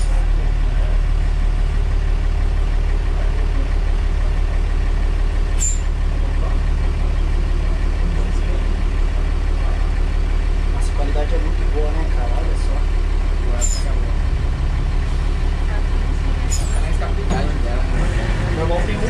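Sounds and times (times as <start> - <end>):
diesel bus engine idling: 0.0 - 19.0.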